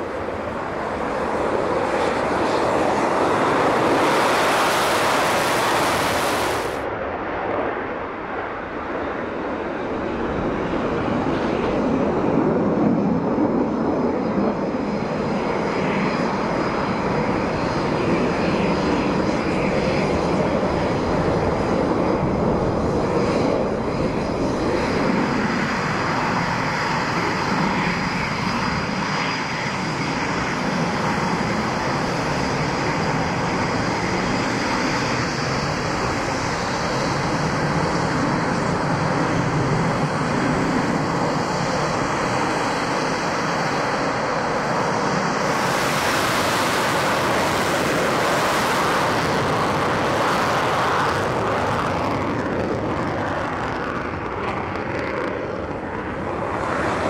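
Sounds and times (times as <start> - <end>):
jet engine noise: 0.0 - 57.0
jet passing by: 0.0 - 57.0.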